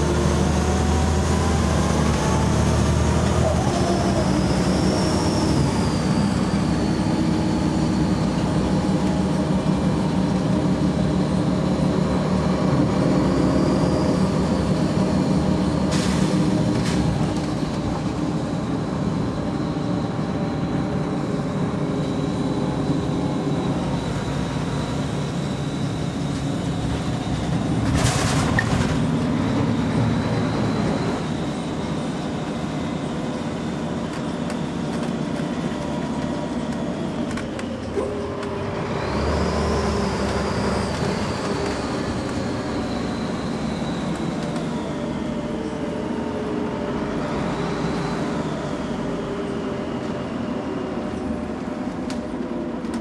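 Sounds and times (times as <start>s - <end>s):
bus diesel engine with whine: 0.0s - 53.0s.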